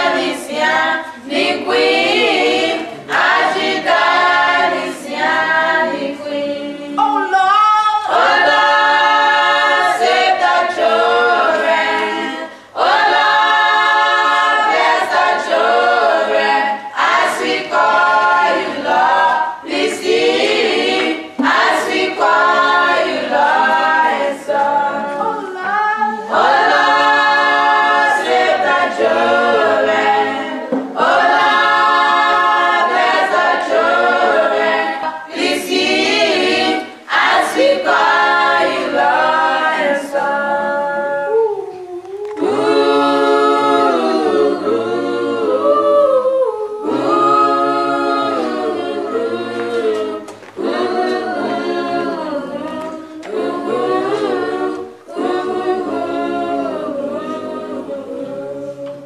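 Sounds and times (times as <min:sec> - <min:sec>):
children's choir singing a cappella: 0:00.0 - 0:59.0.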